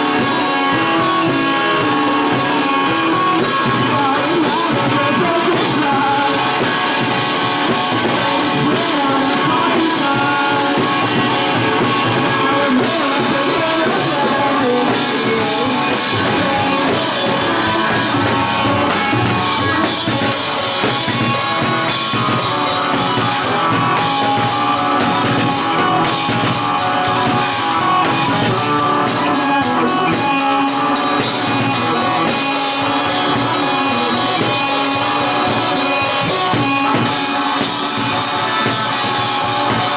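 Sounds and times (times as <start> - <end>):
drum kit: 0.0 - 39.9
guitar: 0.0 - 39.9.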